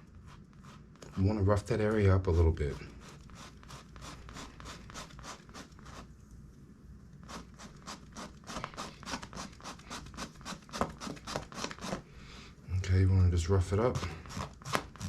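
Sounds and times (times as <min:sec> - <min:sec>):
sandpaper scratching on rubber: 0:00.0 - 0:06.1, 0:07.2 - 0:12.0, 0:13.7 - 0:15.0.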